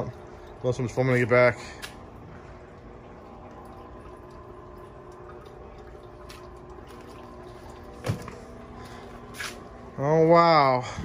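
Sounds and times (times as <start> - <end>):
low even hum: 0.0 - 11.0.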